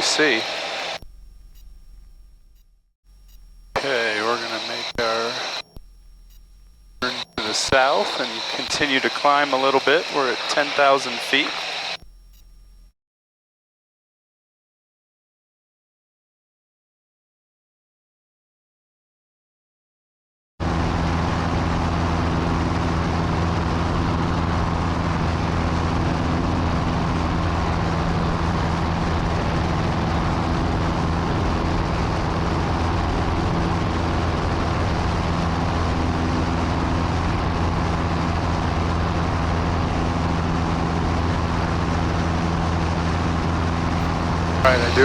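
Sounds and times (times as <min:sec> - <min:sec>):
small plane engine droning: 0:00.0 - 0:02.4, 0:03.1 - 0:12.9, 0:20.7 - 0:45.0.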